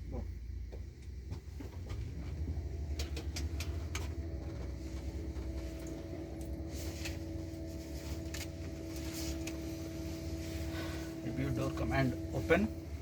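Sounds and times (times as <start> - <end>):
low hum of cockpit electrics: 0.0 - 13.0
steady whine: 0.0 - 13.0.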